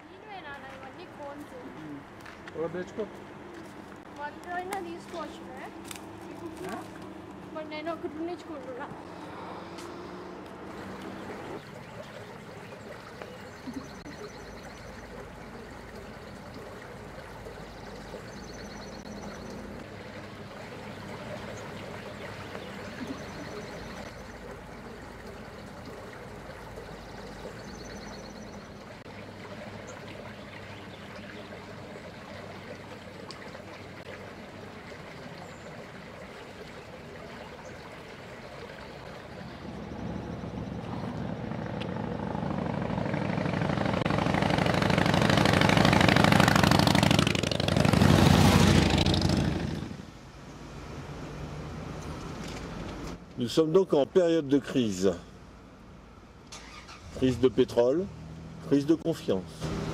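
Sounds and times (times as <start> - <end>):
creek trickling: 0.0 - 59.9.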